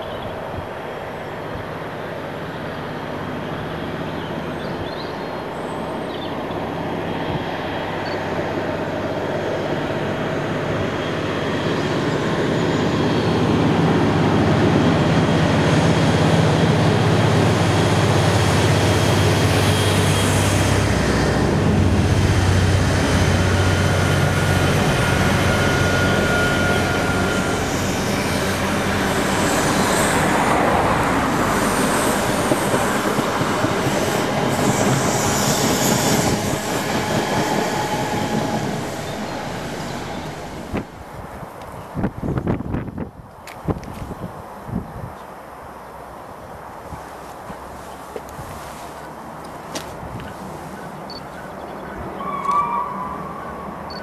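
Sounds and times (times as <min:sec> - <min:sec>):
diesel locomotive engine drone: 0:00.0 - 0:54.0
train coaches running past: 0:00.0 - 0:54.0.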